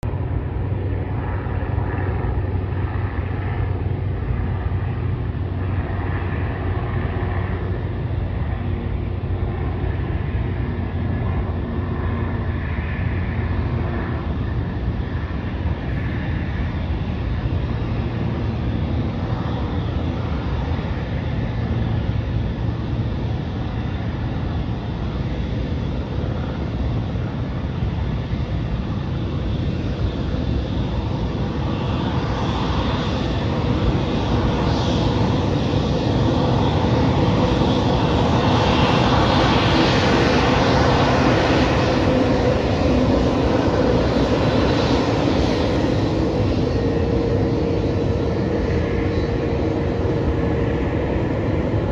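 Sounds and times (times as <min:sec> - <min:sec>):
jet engines rumble and whine: 0:00.0 - 0:51.9.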